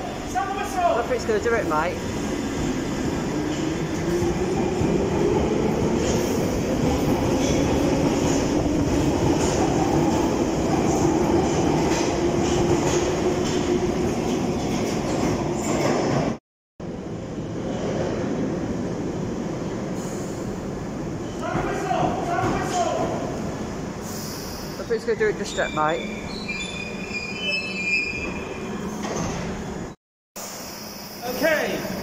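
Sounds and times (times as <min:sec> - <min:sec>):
train wheel and rail rumble: 0:00.0 - 0:30.6.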